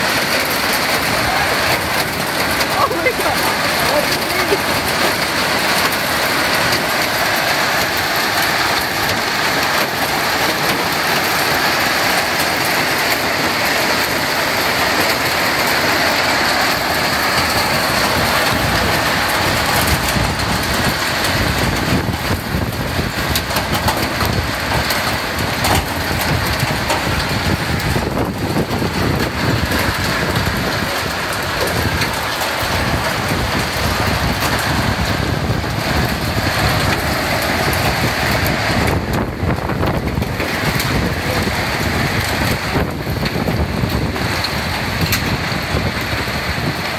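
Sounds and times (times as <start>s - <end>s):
deep rumble: 0.0s - 46.9s
hail and rain falling: 0.0s - 46.9s.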